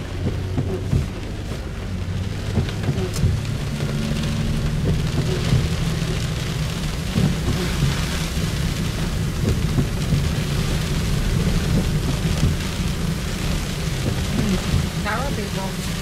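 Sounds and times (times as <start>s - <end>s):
rain striking windshield and roof: 0.0s - 16.0s
road and engine rumble: 0.0s - 16.0s
tyres hissing on wet pavement: 0.0s - 16.0s.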